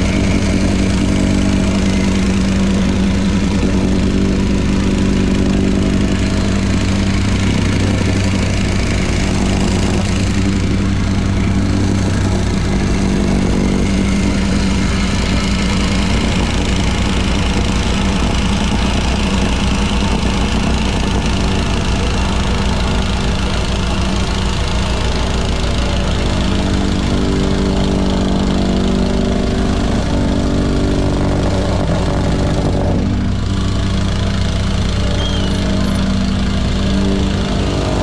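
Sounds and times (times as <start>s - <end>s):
machine engine running: 0.0s - 38.0s.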